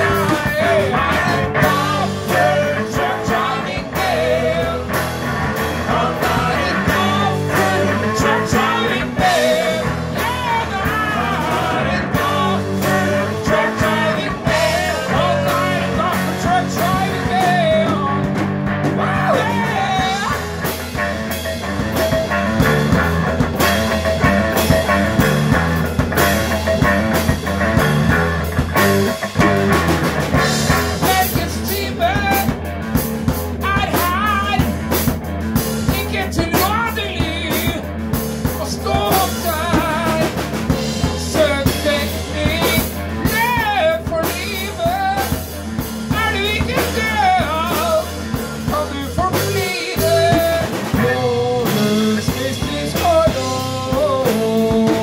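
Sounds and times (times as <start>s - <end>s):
bending lead guitar line: 0.0s - 55.0s
rock band playing: 0.0s - 55.0s.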